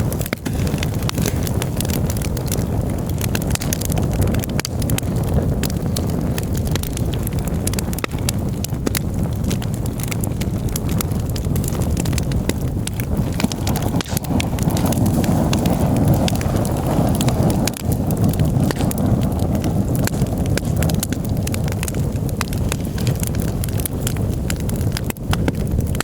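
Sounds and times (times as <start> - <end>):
campfire crackling and popping: 0.0 - 26.0
steady low rumble: 0.0 - 26.0.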